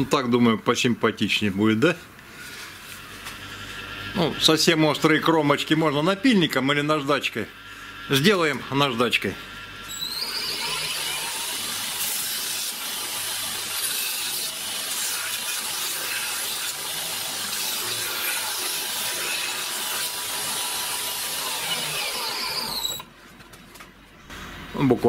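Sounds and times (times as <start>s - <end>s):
grinder motor hum: 2.8s - 23.1s.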